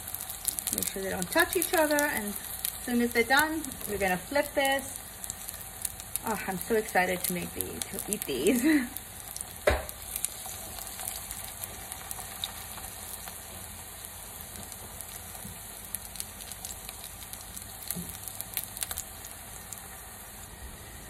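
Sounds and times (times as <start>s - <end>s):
food frying in hot oil: 0.0s - 21.0s.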